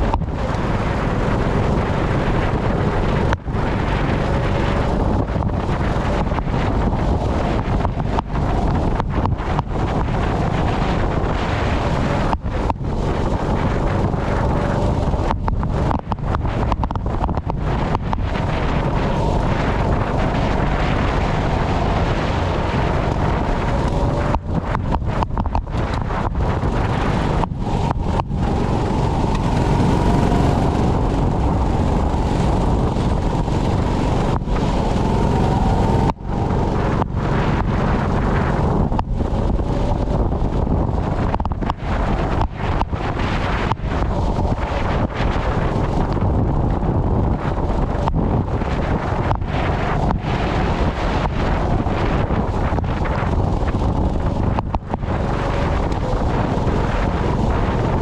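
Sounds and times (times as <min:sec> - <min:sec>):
go-kart engine running: 0:00.0 - 0:58.0
wind noise on microphone: 0:00.0 - 0:58.0.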